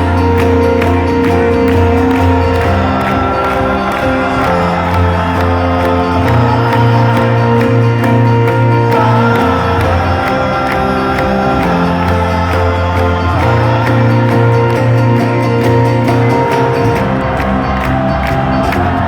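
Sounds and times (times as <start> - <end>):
live rock band instrumental: 0.0 - 19.0.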